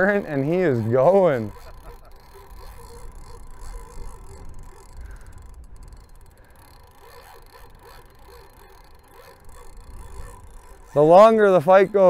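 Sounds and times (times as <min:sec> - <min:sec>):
gusty wind buffeting microphone: 0:00.0 - 0:12.0
shallow river current: 0:00.0 - 0:12.0.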